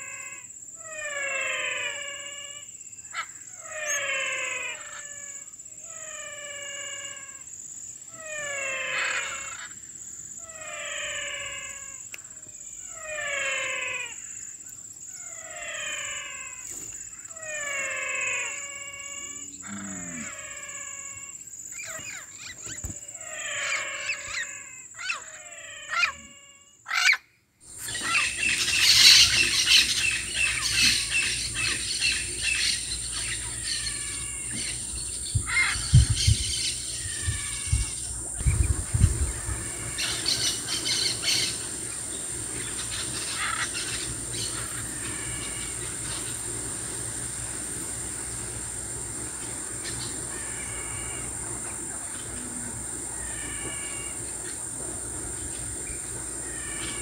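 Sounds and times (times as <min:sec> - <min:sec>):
birds and insects chirping: 0:00.0 - 0:57.0
high insect whine: 0:00.0 - 0:57.0.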